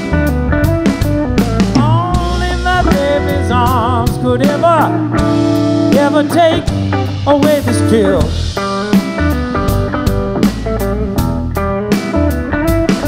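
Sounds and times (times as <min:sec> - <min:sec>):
bass guitar: 0:00.0 - 0:13.0
drum kit with cymbals: 0:00.0 - 0:13.0
electric guitar lead: 0:00.0 - 0:13.0.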